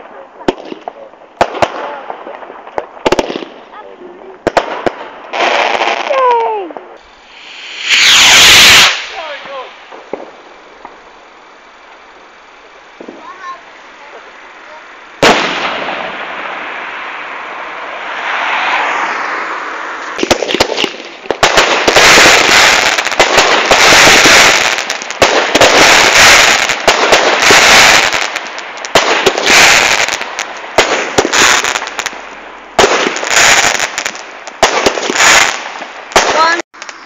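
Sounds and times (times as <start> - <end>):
fireworks crackling bursts: 0.0 - 37.0
fireworks hiss: 0.0 - 37.0
fireworks sharp pops: 0.0 - 37.0.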